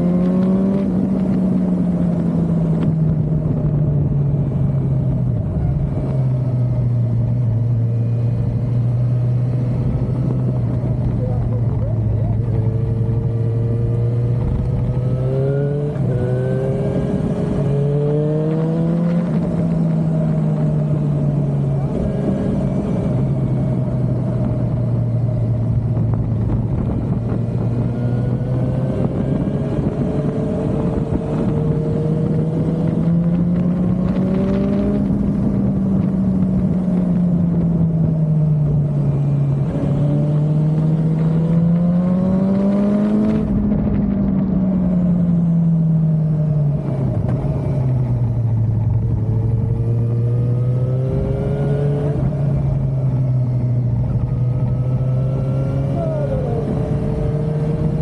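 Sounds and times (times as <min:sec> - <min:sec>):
motorcycle engine revving: 0:00.0 - 0:58.0
rushing wind noise: 0:00.0 - 0:58.0.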